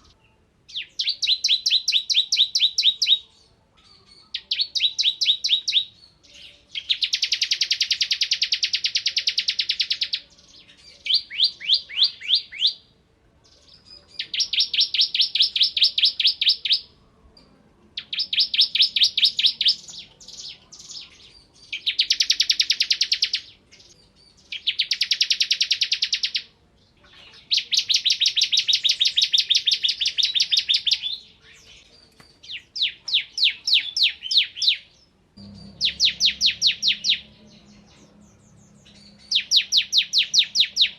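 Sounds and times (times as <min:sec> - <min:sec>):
bird singing fast trill: 0:00.0 - 0:17.0, 0:18.0 - 0:26.6, 0:27.2 - 0:40.9.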